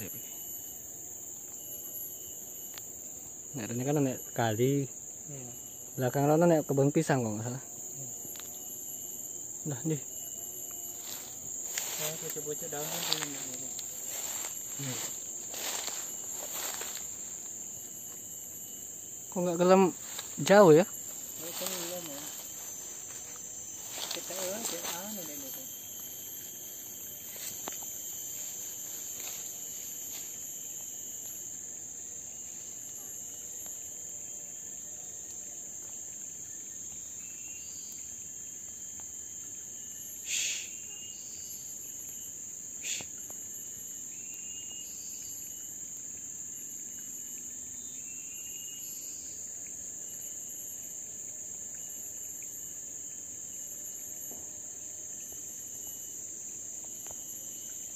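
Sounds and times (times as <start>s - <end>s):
high-pitched insect drone: 0.0s - 57.9s.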